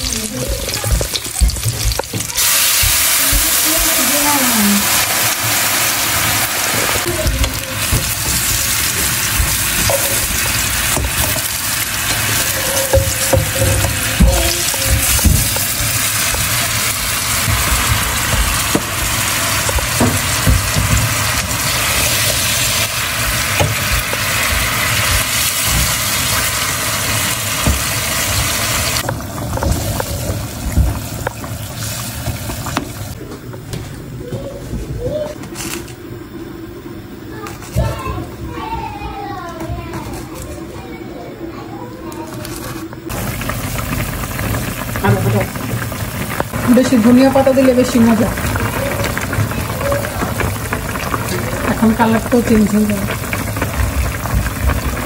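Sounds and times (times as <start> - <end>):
gravy sizzling in frying pan: 0.0 - 33.2, 43.1 - 55.0.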